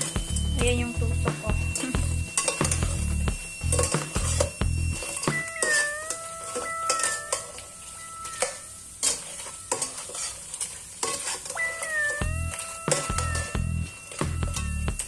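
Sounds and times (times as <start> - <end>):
pan sizzling: 0.0 - 15.0.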